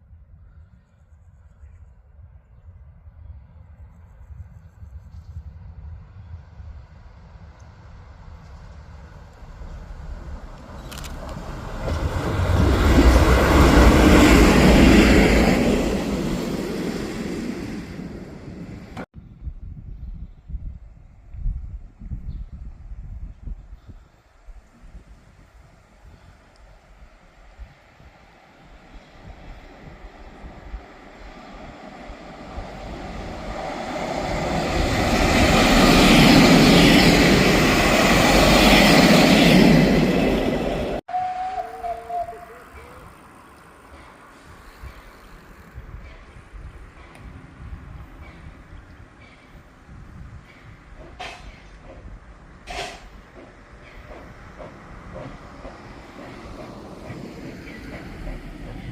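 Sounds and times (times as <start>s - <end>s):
diesel train passing: 2.9s - 19.1s, 23.8s - 58.9s.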